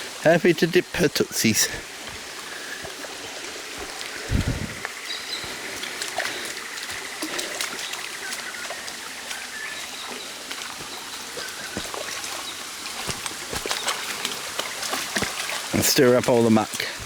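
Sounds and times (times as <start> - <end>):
creek water running over rock: 0.0 - 17.0
small water splashes: 1.8 - 17.0.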